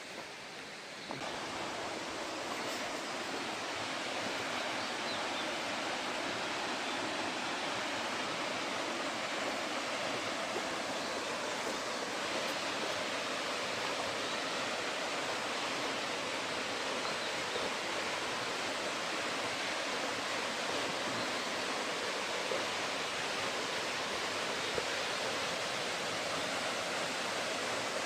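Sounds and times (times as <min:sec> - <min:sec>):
running and falling water: 0:00.0 - 0:28.0.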